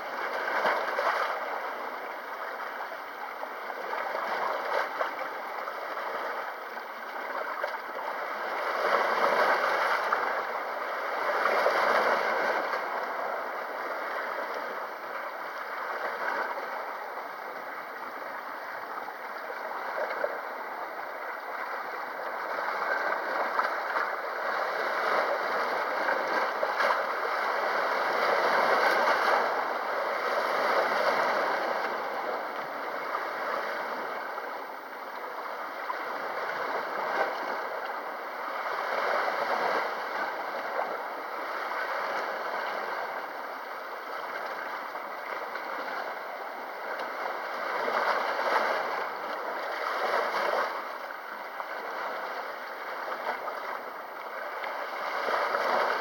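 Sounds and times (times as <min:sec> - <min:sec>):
sea waves washing against shore: 0:03.7 - 0:56.0.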